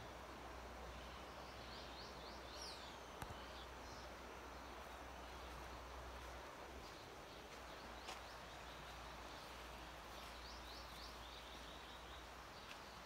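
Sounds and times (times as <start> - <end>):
background hiss and rumble: 0.0 - 13.0
bird chirping: 0.8 - 13.0.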